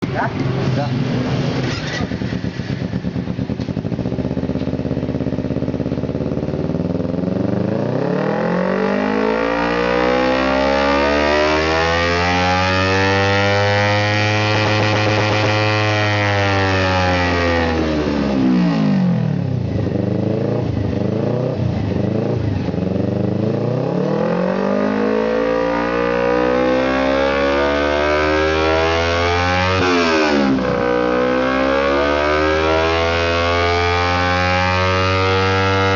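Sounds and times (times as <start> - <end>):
engine revving through exhaust: 1.1 - 35.9.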